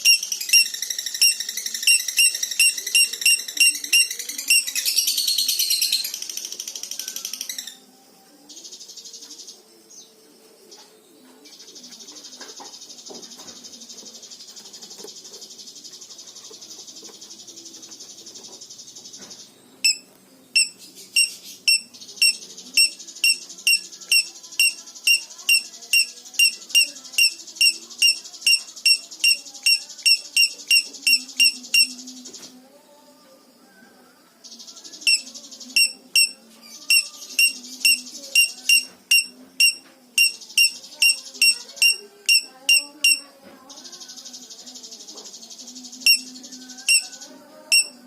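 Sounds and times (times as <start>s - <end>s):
buzzy high bird trill: 0.0s - 7.9s, 11.6s - 32.5s, 34.5s - 48.0s.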